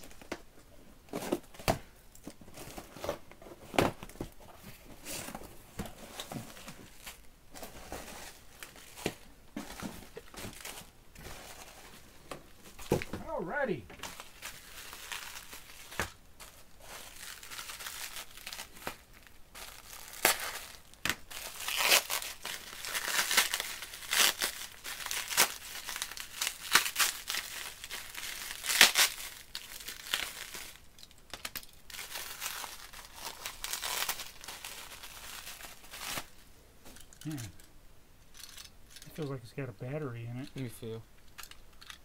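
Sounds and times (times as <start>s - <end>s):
bubble wrap crinkling: 0.0s - 0.4s, 1.1s - 37.7s.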